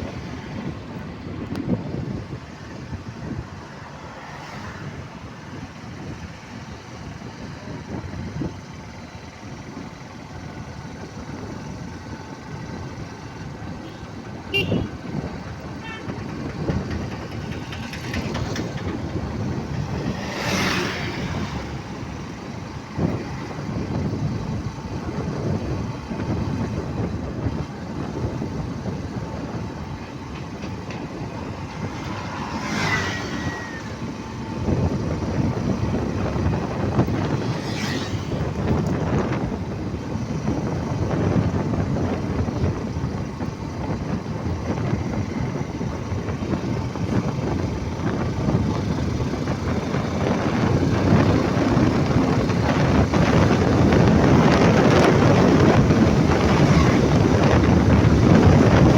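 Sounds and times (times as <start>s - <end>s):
vehicle engine and tyre rumble: 0.0s - 58.9s.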